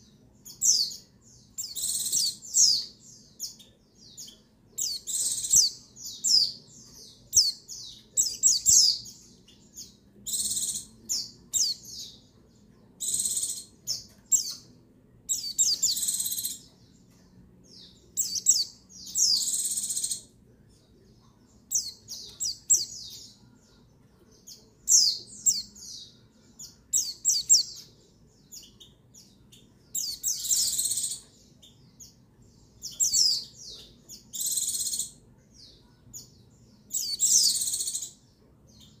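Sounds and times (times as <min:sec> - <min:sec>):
bird chirping and trilling: 0:00.0 - 0:20.4, 0:21.4 - 0:39.0.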